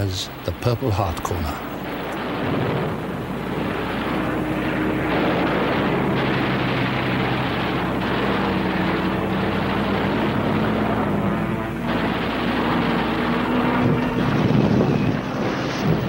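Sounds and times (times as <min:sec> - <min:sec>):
low multi-tone hum: 0:00.0 - 0:16.0
propeller aircraft engines droning: 0:00.0 - 0:16.0
rushing wind: 0:00.0 - 0:16.0.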